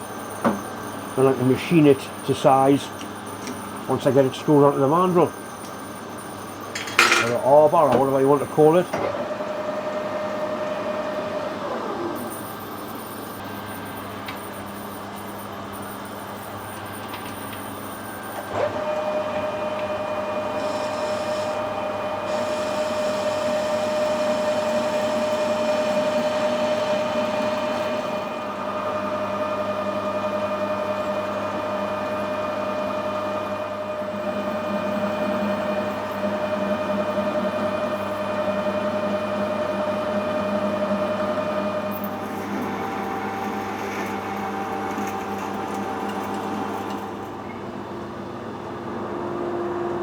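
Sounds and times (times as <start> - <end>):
metal lathe running: 0.0 - 47.6.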